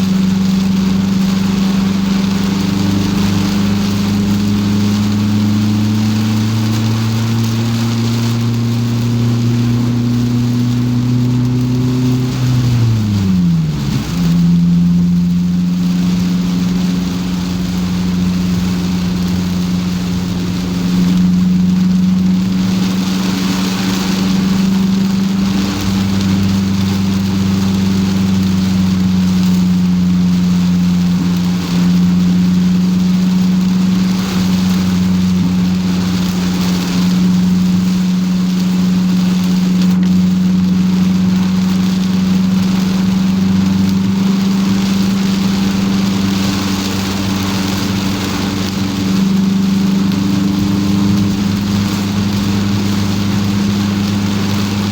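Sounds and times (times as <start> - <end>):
car engine hum: 0.0 - 54.9
rain and tyres on wet road: 0.0 - 54.9.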